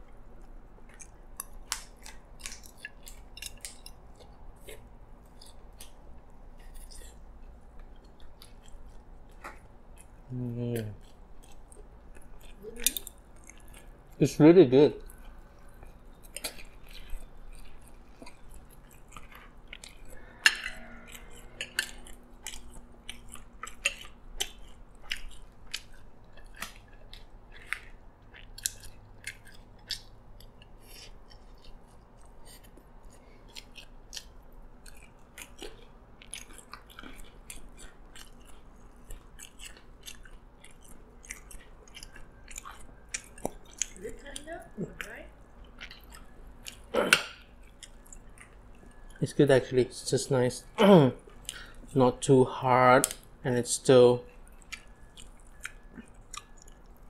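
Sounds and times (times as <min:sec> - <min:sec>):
close chewing with wet mouth clicks: 0:00.0 - 0:52.4, 0:53.0 - 0:57.0.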